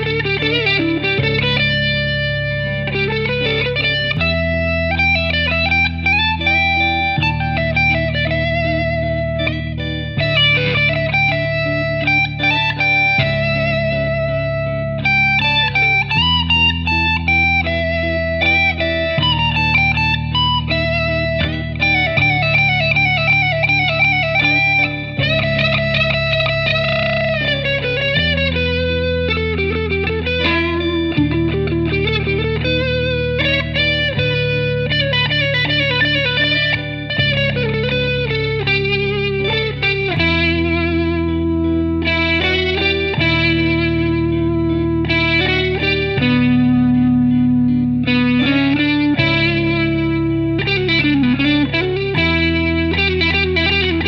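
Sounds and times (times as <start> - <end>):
electric guitar instrumental: 0.0 - 54.0.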